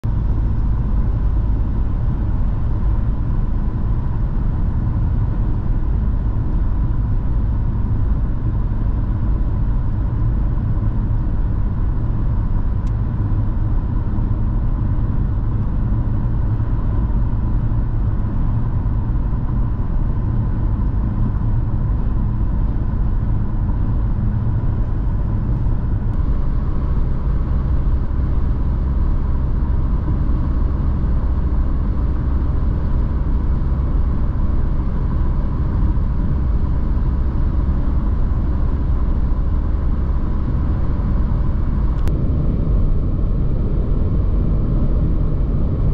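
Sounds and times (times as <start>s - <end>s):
car engine and road rumble: 0.0s - 45.9s
faint steady whine: 0.0s - 45.9s.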